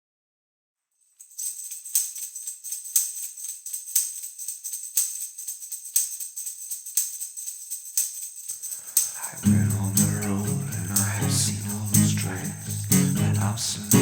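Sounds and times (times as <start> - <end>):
fast shaking percussion: 1.1 - 14.0.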